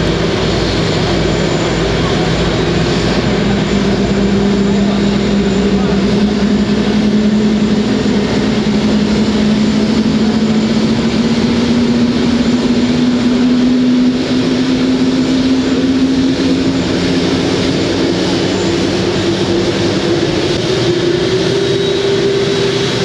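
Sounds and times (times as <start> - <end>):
jet engine running: 0.0 - 23.0.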